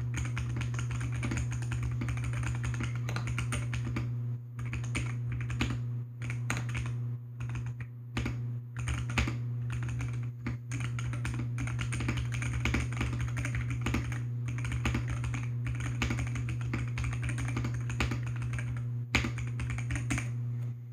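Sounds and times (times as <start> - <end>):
mechanical keyboard typing: 0.0 - 20.3
steady low hum: 0.0 - 20.9.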